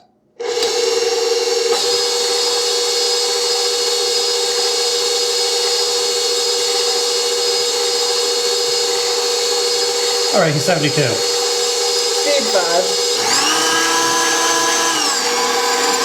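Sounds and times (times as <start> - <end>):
stand mixer motor whine: 0.4 - 16.0.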